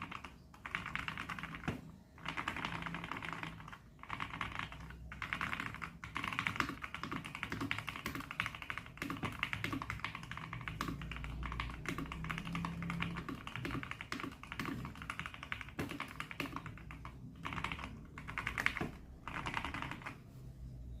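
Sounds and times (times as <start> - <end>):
mechanical keyboard typing: 0.0 - 20.3.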